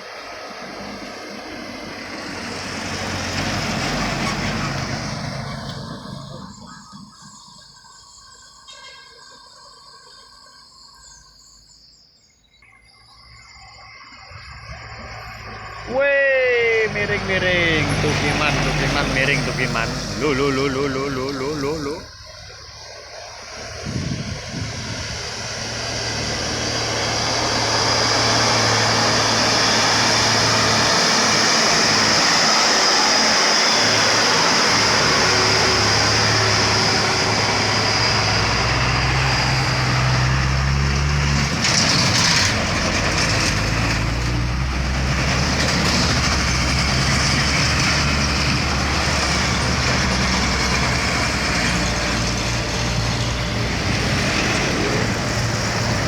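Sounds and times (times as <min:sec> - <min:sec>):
truck diesel engines labouring uphill: 0:00.0 - 0:11.8, 0:13.6 - 0:56.0.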